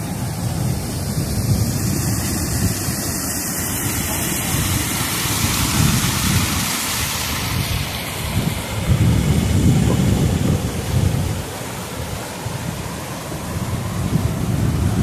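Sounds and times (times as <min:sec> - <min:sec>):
rough surf roaring: 0:00.0 - 0:15.0
water rushing down channel: 0:00.0 - 0:15.0
wind rumble on microphone: 0:00.0 - 0:15.0.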